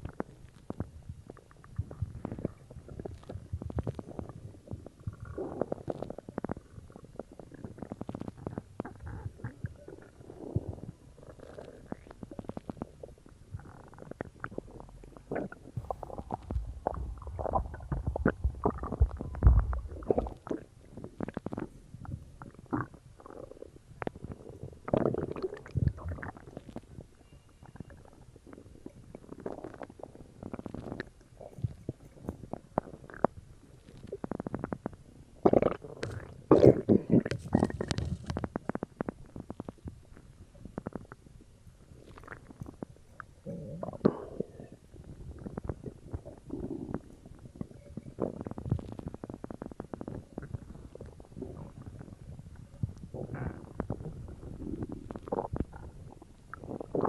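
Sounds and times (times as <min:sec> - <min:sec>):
stomach growling and gurgling: 0:00.0 - 0:57.0.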